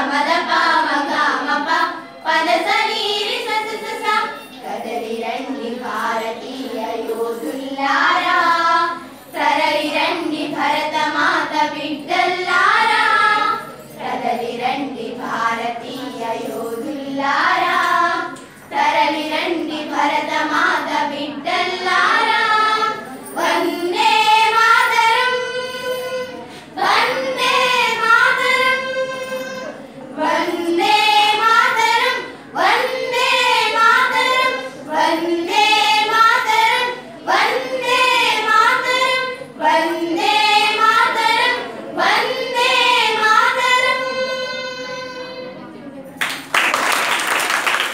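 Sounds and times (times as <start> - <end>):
girls singing together: 0.0 - 45.5.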